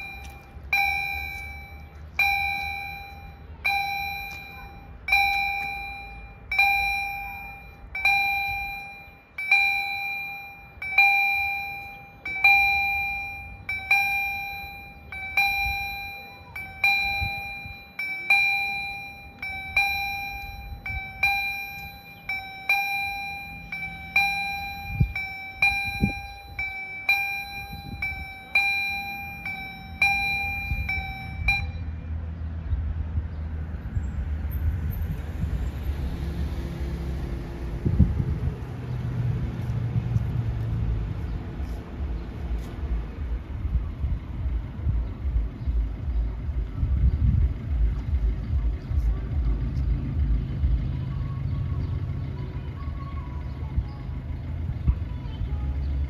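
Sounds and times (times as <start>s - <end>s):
level crossing warning bells: 0.0s - 56.0s.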